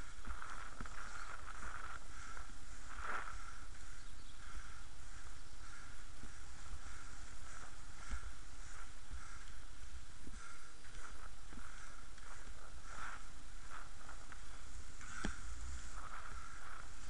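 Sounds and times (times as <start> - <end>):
inline skates rolling on asphalt: 0.0 - 17.0
wind noise: 0.0 - 17.0.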